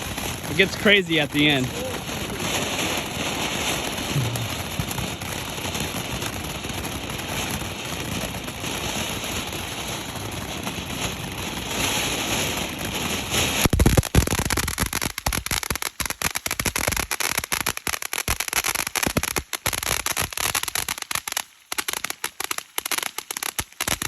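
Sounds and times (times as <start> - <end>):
firework fountain hissing sparks: 0.0 - 24.0.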